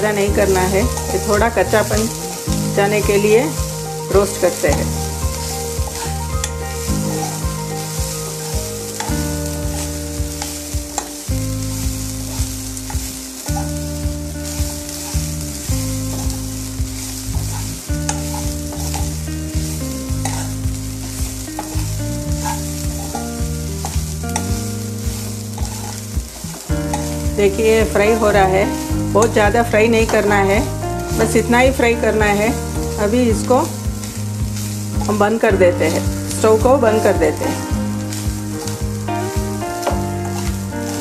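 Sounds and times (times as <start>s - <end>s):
coconut sizzling in oil: 0.0s - 41.0s
spatula scraping pan: 0.0s - 41.0s.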